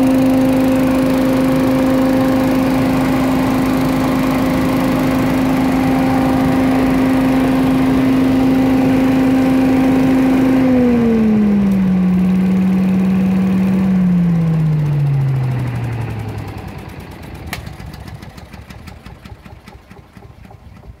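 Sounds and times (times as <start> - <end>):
leaf vacuum engine whining: 0.0 - 20.6.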